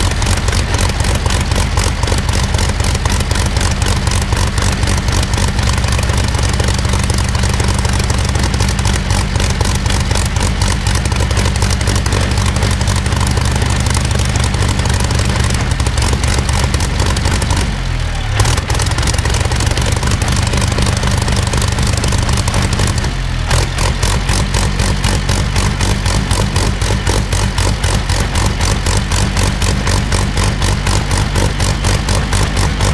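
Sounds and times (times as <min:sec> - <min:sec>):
aero engine running: 0:00.0 - 0:32.9.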